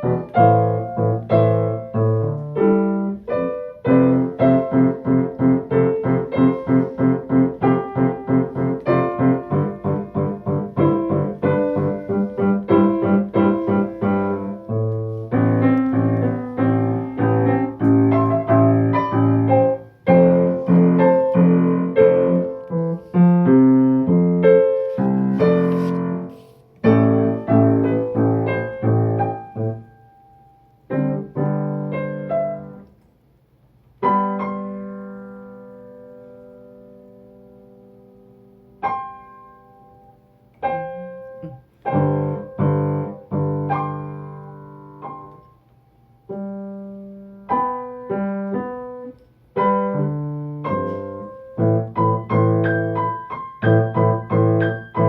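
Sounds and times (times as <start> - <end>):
solo piano playing: 0.0 - 55.0.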